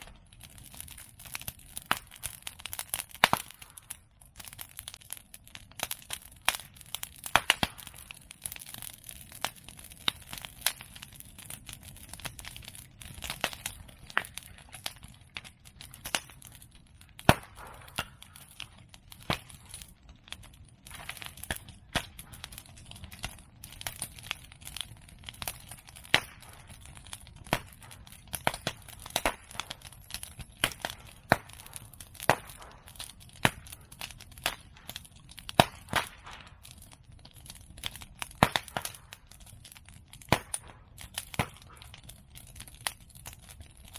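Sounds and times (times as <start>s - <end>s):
bonfire crackling: 0.0s - 43.9s
sharp pops of burning wood: 0.0s - 43.9s.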